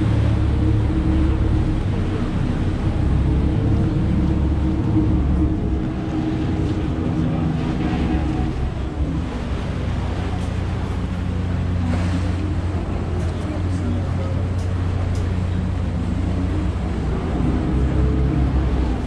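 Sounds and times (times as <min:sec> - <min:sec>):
ferry engine droning: 0:00.0 - 0:19.0.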